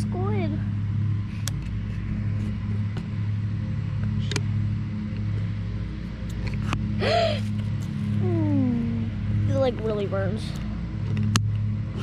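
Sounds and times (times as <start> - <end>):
low droning hum: 0.0 - 12.0.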